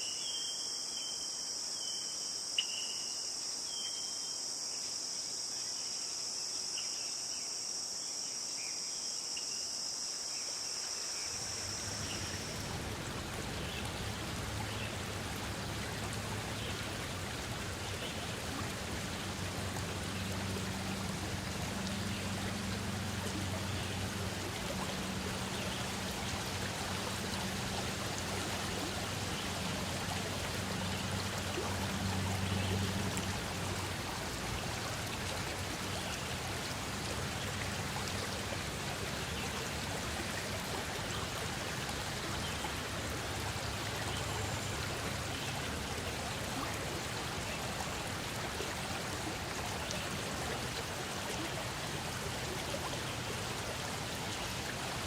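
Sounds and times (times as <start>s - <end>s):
running water rushing: 10.6s - 55.0s.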